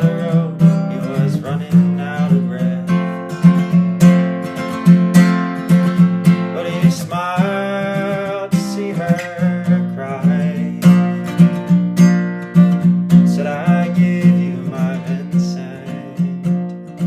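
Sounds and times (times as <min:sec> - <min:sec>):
acoustic guitar instrumental: 0:00.0 - 0:17.0.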